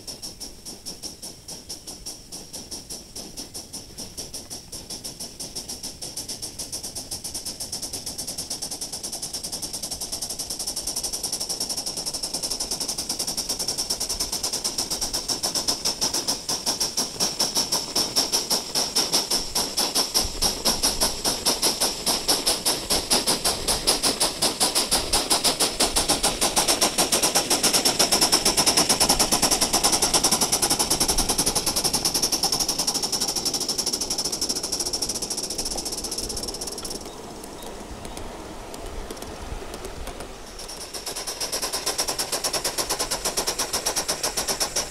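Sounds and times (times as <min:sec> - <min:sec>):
model steam locomotive chuffing: 0:00.0 - 0:44.9
steady hiss of steam: 0:00.0 - 0:44.9.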